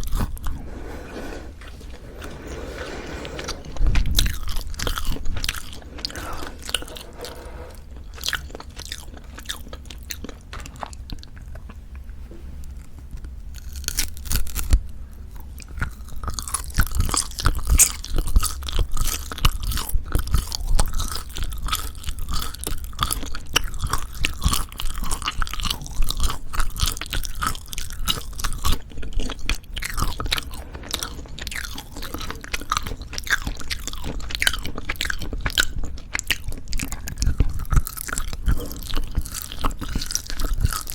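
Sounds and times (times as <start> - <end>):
chewing jerky: 3.6 - 12.1, 12.9 - 40.9.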